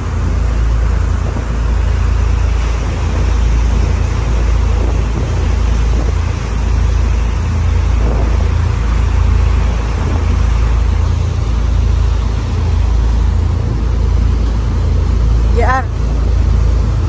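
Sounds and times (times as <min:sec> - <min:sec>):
boat engine low rumble: 0:00.0 - 0:17.0
rushing water noise: 0:00.0 - 0:17.0.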